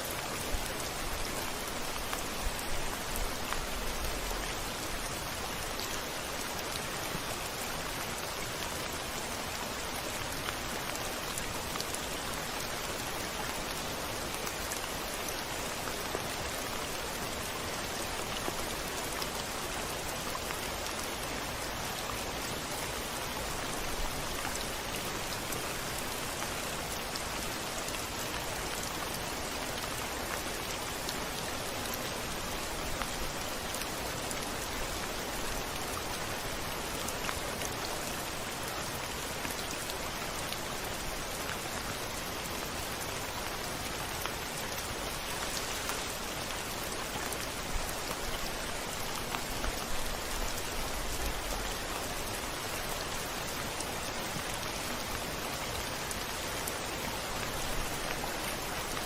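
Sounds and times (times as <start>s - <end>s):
rain falling on a window: 0.0s - 59.0s.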